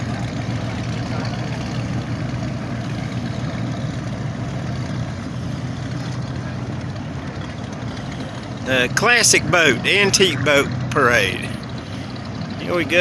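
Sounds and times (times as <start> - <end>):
motorboat engine humming: 0.0 - 13.0
water wash: 0.0 - 13.0.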